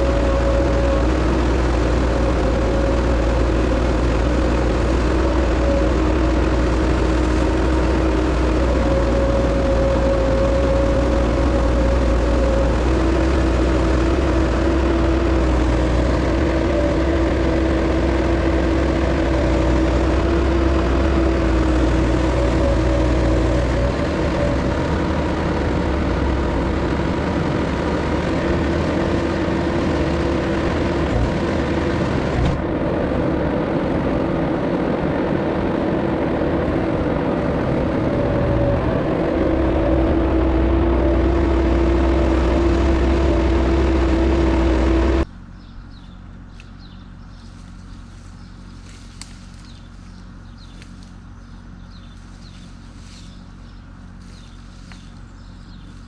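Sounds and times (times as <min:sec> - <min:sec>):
diesel engine running hard: 0:00.0 - 0:56.0.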